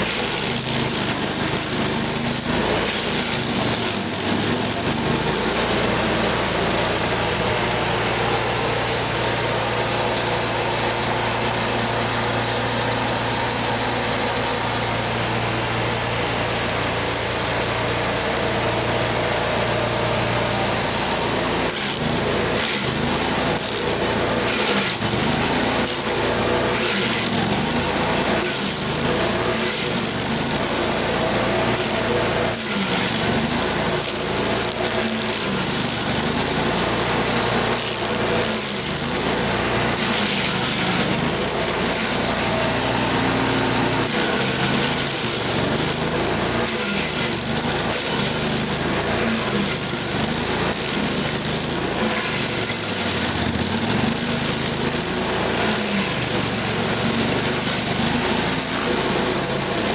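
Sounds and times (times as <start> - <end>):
cutter wheel grinding wood: 0.0 - 59.9
stump grinder engine running: 0.0 - 59.9.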